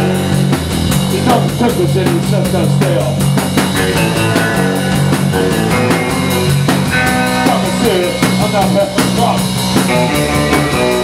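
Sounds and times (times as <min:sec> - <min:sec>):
drum kit: 0:00.0 - 0:11.0
electric bass: 0:00.0 - 0:11.0
electric guitar: 0:00.0 - 0:11.0.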